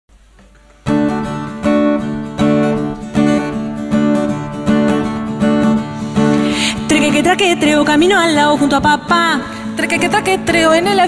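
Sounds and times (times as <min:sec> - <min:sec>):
acoustic guitar strumming chords: 0:00.2 - 0:11.0.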